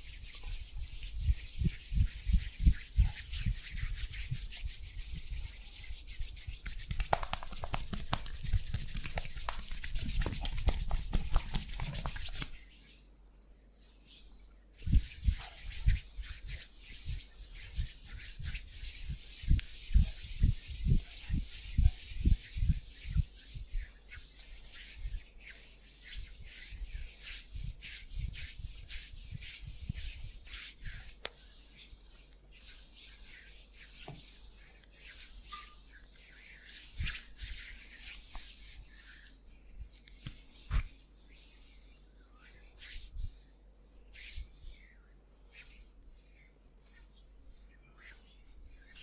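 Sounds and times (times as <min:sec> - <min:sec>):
hands rubbing oiled skin: 0:00.0 - 0:49.0.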